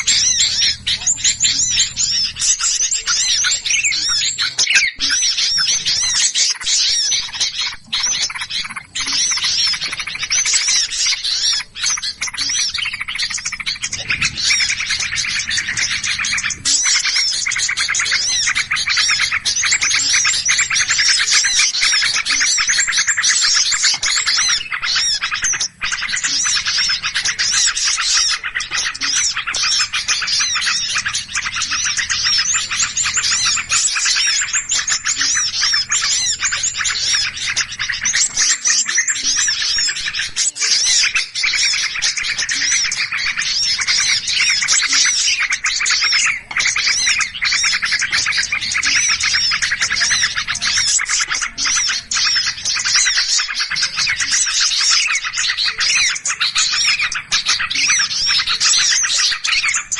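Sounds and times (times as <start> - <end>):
flock of small birds chirping: 0.0 - 59.9.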